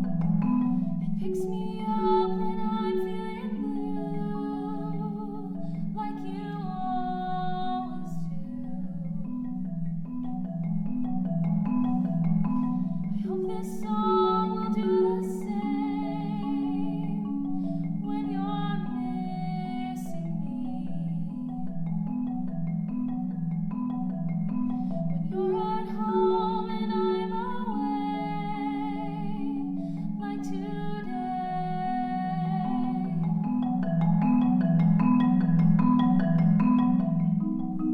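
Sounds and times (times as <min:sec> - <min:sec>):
marimba pattern: 0:00.0 - 0:37.9
wavering high melody: 0:00.0 - 0:37.9.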